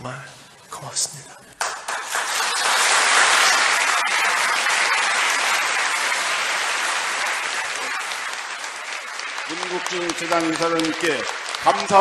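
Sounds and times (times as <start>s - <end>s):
large audience applauding: 1.6s - 12.0s.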